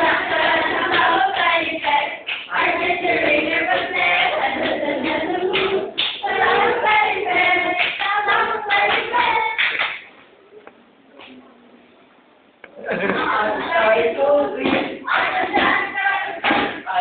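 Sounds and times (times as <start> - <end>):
group singing together: 0.0 - 9.9, 12.9 - 17.0.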